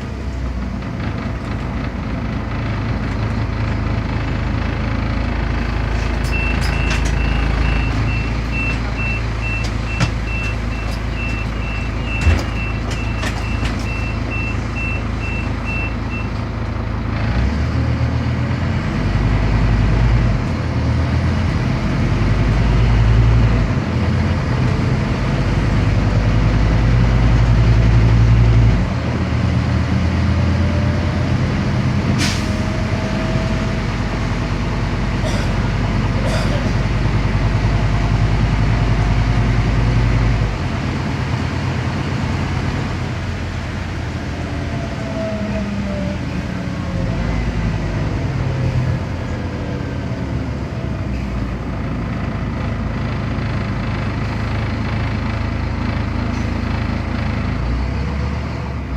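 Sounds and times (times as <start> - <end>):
bus diesel engine droning: 0.0 - 58.9.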